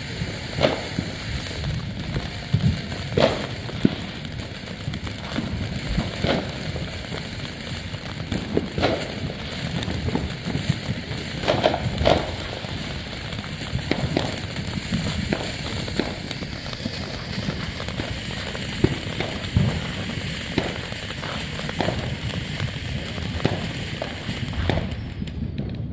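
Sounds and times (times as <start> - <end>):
firework crackles and pops: 0.0 - 25.9
firework sparks hissing: 0.0 - 25.9.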